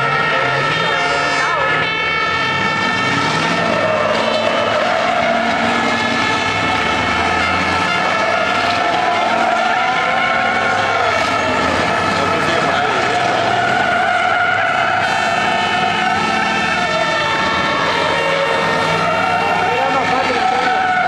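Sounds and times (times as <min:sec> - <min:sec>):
diesel truck engines racing: 0:00.0 - 0:21.0.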